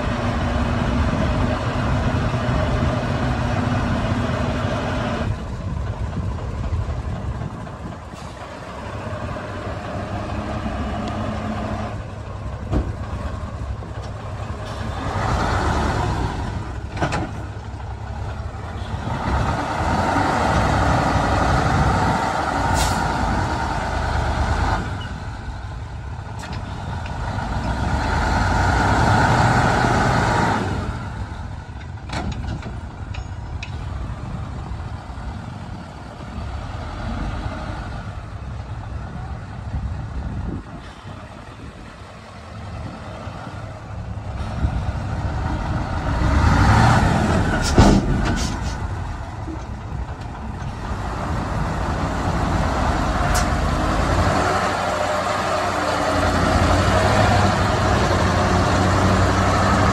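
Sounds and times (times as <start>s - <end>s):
heavy diesel machinery engines: 0.0s - 59.9s.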